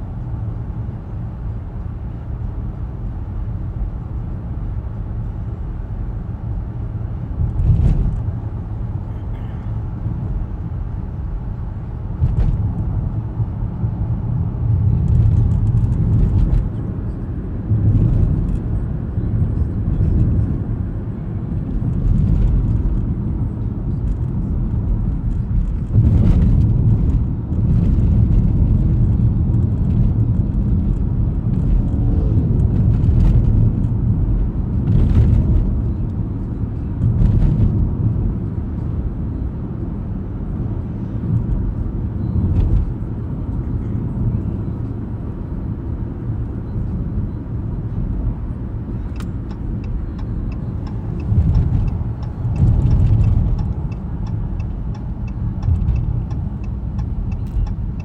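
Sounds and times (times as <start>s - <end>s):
road and tyre rumble: 0.0s - 58.0s.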